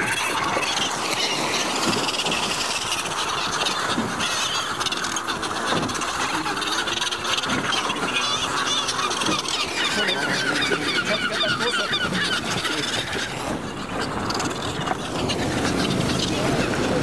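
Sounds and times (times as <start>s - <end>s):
sea: 0.0s - 17.0s
water splashing: 0.0s - 17.0s
wind: 0.0s - 17.0s
wings flapping: 0.0s - 17.0s.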